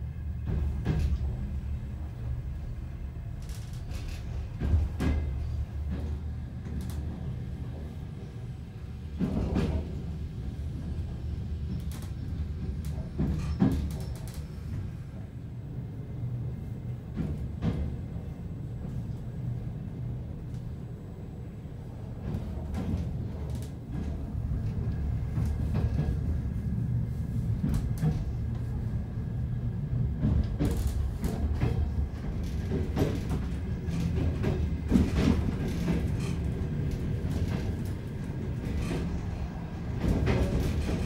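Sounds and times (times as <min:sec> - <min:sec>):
train rumbling on rails: 0:00.0 - 0:41.0
train wheels clattering over track: 0:00.3 - 0:02.6, 0:03.3 - 0:15.4, 0:16.6 - 0:19.4, 0:22.0 - 0:41.0.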